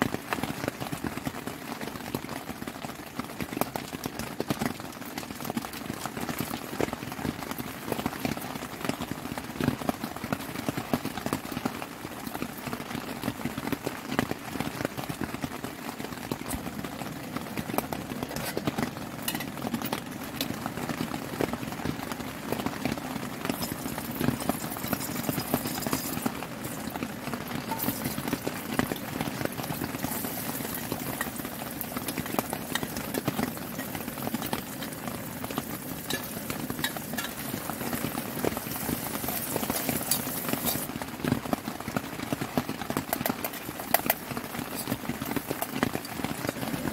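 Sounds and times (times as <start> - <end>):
heavy rain on a tent: 0.0 - 46.9.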